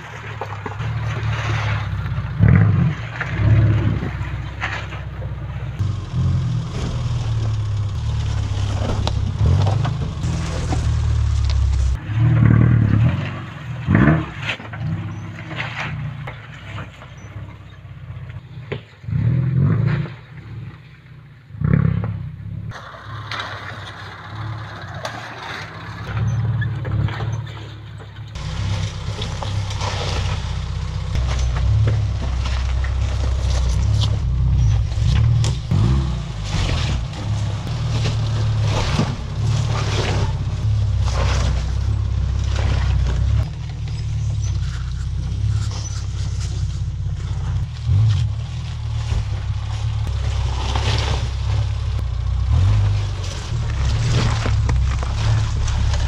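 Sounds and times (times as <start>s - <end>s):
knocks and scrapes: 0.0s - 20.4s, 21.9s - 56.0s
car engine revving: 0.0s - 56.0s.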